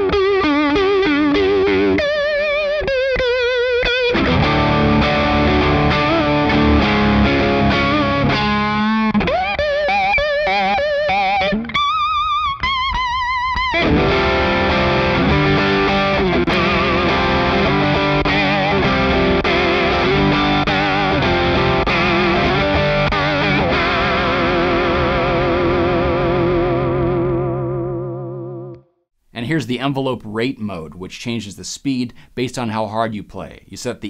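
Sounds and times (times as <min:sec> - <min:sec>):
electric guitar with vibrato: 0:00.0 - 0:28.8.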